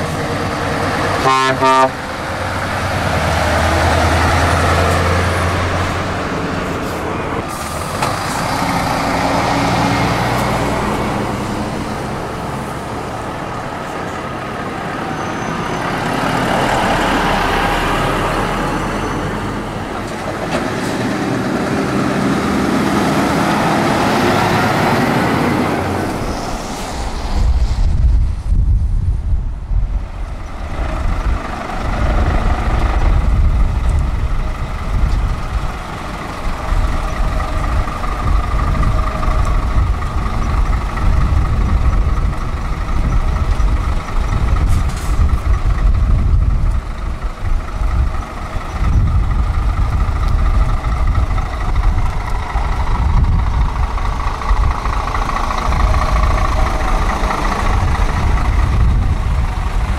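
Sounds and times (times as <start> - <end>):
truck diesel engines idling: 0.0 - 59.9.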